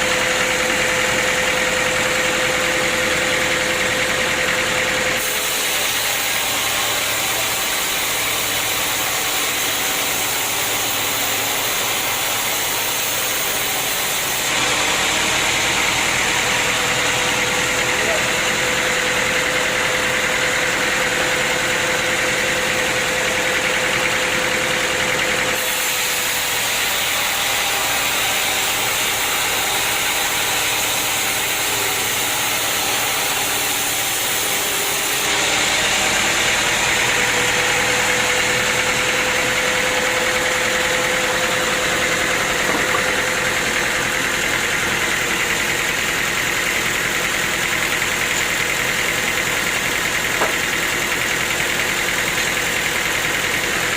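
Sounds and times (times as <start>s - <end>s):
sawmill machinery humming: 0.0s - 53.9s.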